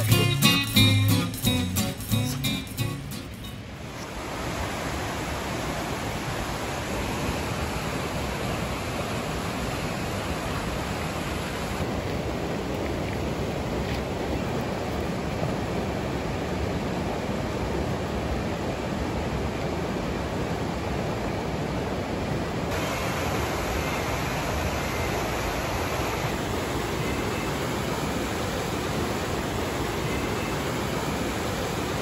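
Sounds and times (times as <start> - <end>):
creek rushing over boulders: 0.0 - 32.0.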